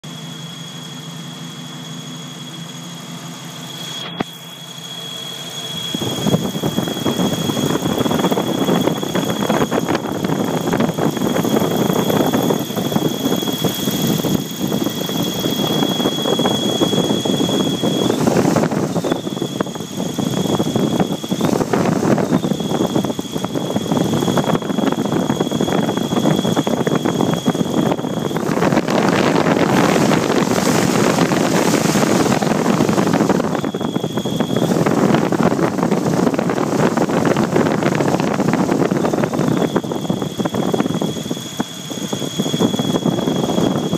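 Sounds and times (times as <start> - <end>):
car engine running: 0.0 - 43.9
steady high-pitched squeal: 0.0 - 43.9.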